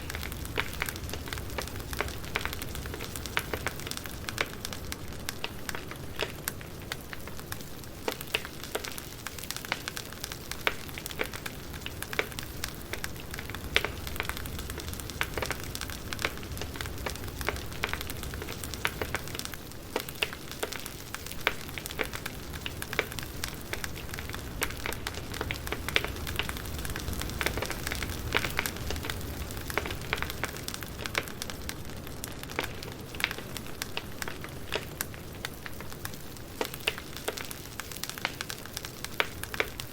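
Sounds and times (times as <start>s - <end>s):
low rumble of burning logs: 0.0s - 39.9s
wood fire crackling and popping: 0.0s - 39.9s.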